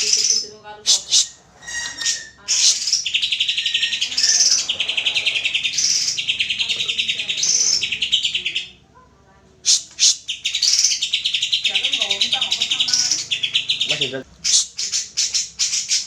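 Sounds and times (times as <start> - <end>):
bird singing buzzy trills: 0.0 - 8.8, 9.7 - 16.0.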